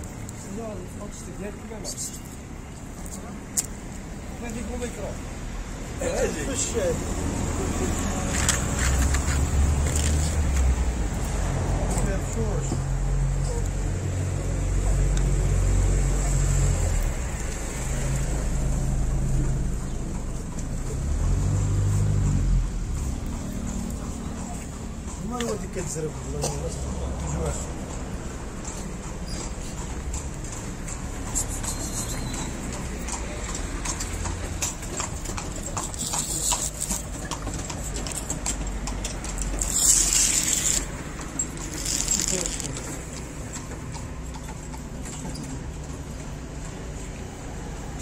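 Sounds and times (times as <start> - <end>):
traffic engine rumble: 0.0 - 48.0.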